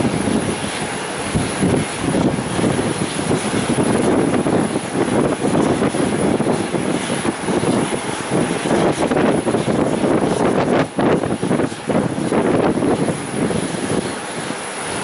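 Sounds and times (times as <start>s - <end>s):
aircraft engines rumbling: 0.0s - 15.0s
wind buffeting microphone: 0.0s - 15.0s.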